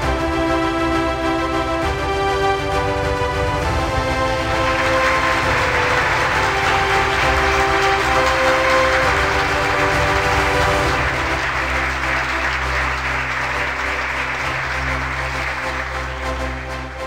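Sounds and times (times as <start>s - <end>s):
background music with held chords: 0.0s - 17.0s
crowd applauding: 0.0s - 17.0s.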